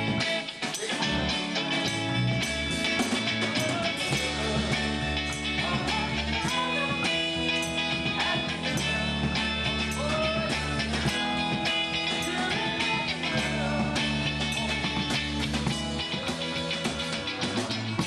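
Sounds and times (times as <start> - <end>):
electric guitar: 0.0 - 18.0
rock band playing: 0.0 - 18.0.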